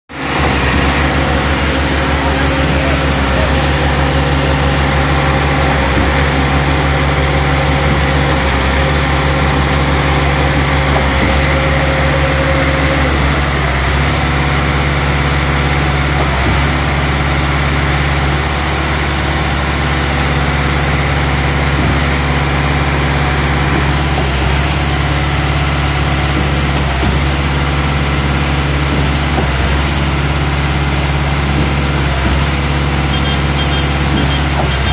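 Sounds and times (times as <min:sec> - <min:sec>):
concrete unloading into pump: 0:00.1 - 0:34.9
heavy diesel machinery running: 0:00.1 - 0:34.9
high whine: 0:00.1 - 0:34.9.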